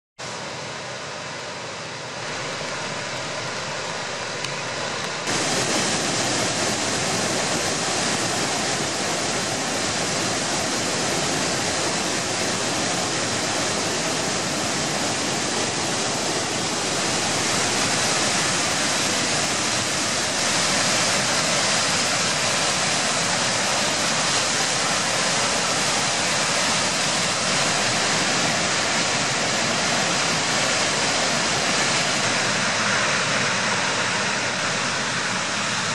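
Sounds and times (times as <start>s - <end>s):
water rushing down spillway: 0.2s - 35.9s.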